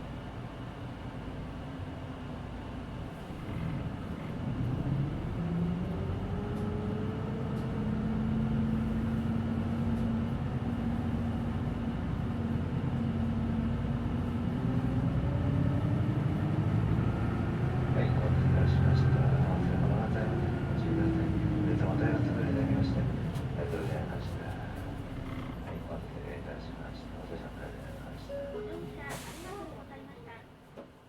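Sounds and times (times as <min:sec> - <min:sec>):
bus engine accelerating: 0:00.0 - 0:30.6.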